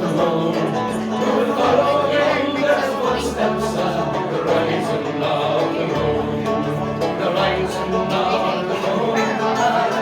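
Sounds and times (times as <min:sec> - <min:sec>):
acoustic group playing ballad: 0:00.0 - 0:10.0.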